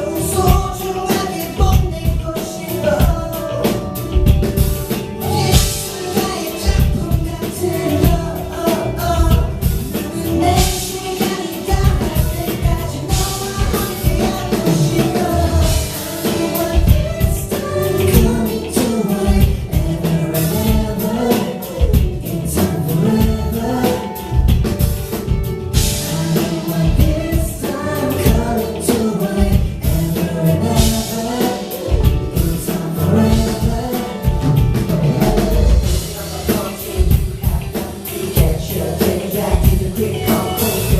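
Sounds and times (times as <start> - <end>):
man singing pop music: 0.0 - 40.9
drum beat: 0.4 - 40.9.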